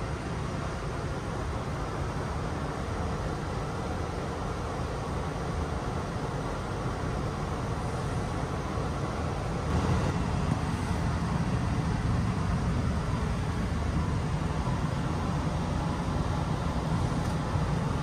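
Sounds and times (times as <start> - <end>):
passenger train rumbling: 0.0 - 18.0.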